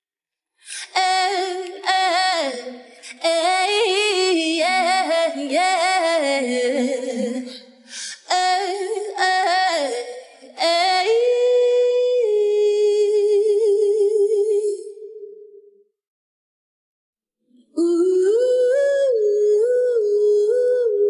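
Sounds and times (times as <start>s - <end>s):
woman singing a cappella: 0.6s - 15.6s, 17.7s - 21.0s.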